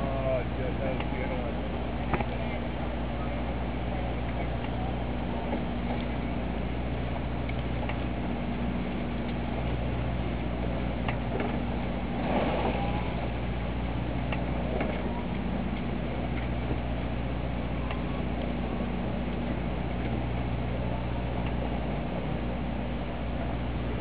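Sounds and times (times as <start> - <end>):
boat motor idling: 0.0 - 24.0.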